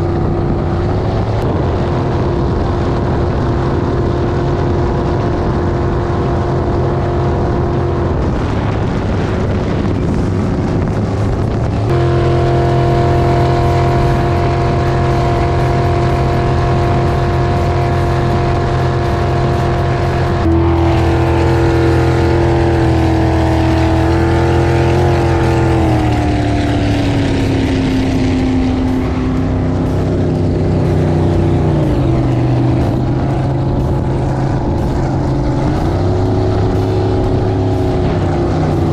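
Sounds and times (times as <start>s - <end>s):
jet boat engine running hard: 0.0s - 38.9s
water noise: 0.0s - 38.9s
wind noise: 0.0s - 38.9s.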